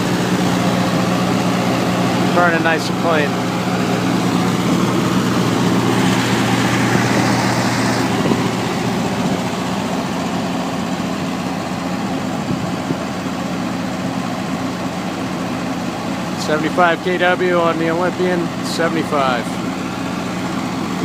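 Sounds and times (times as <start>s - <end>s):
diesel generator running: 0.0s - 21.0s.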